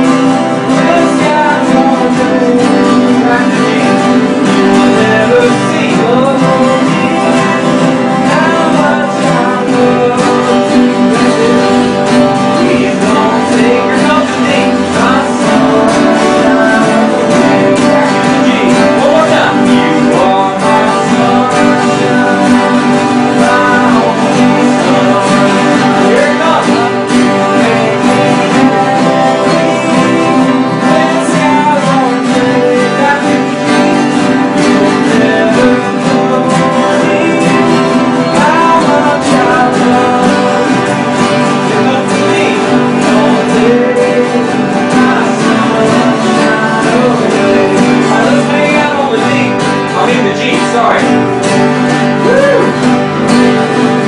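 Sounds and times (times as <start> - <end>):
acoustic guitars strumming: 0.0 - 54.0
voices singing along: 0.0 - 54.0.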